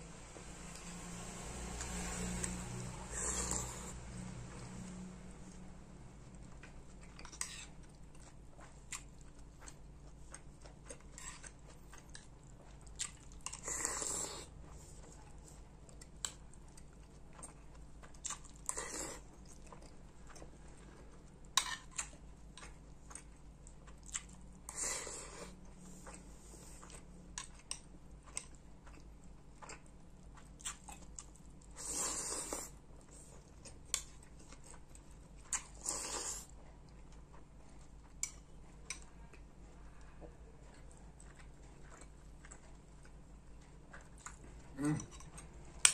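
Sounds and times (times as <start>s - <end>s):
person chewing: 1.7s - 4.0s, 5.4s - 45.9s.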